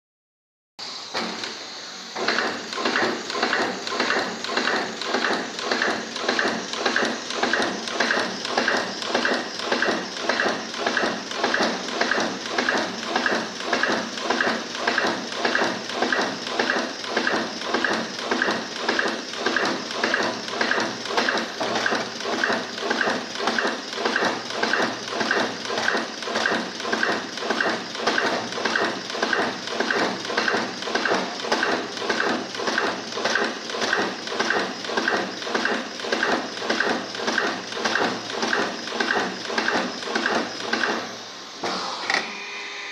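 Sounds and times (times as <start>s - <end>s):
insertion machine cycling: 1.1s - 41.1s.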